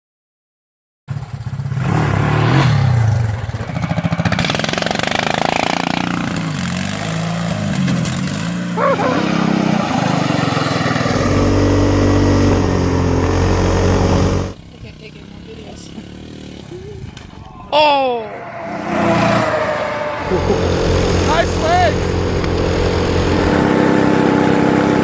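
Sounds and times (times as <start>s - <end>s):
vehicle engine revving: 1.1s - 25.0s.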